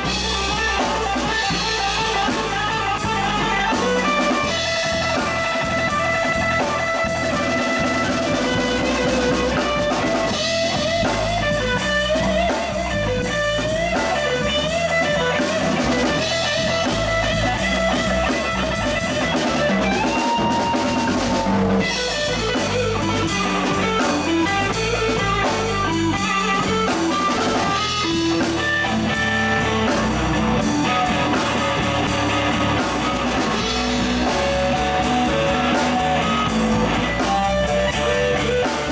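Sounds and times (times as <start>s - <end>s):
drum kit: 0.0s - 38.9s
electric bass: 0.0s - 38.9s
electric guitar lead: 0.0s - 38.9s.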